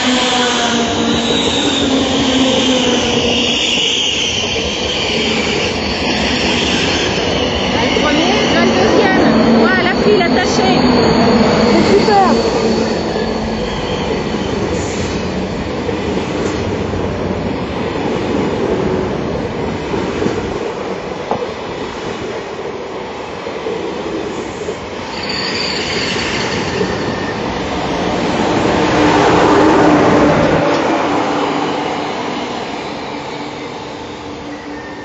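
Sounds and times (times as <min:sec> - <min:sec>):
high-speed train on rails: 0:00.0 - 0:35.0.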